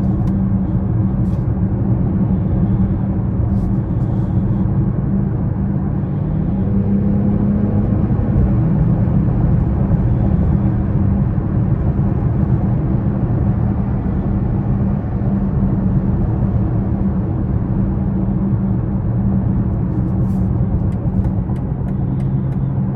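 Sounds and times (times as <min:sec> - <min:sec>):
car engine humming: 0:00.0 - 0:22.9.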